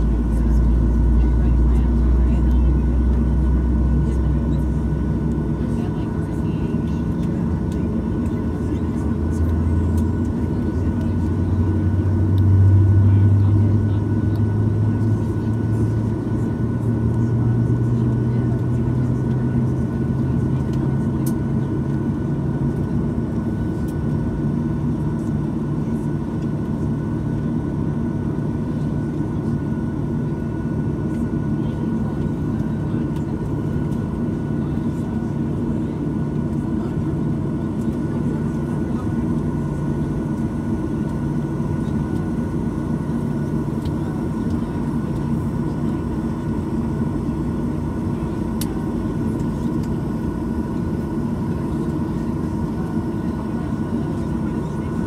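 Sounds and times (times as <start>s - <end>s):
airplane cabin low hum: 0.0s - 55.0s.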